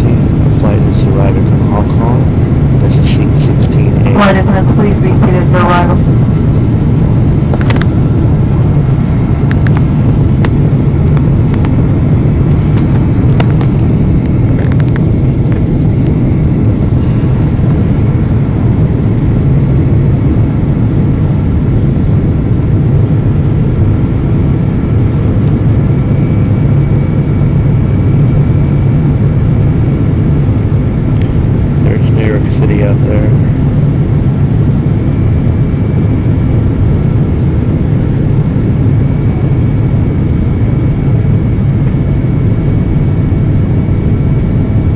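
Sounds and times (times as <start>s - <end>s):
faint steady whine: 0.0s - 44.9s
low drone of aircraft engines: 0.0s - 44.9s.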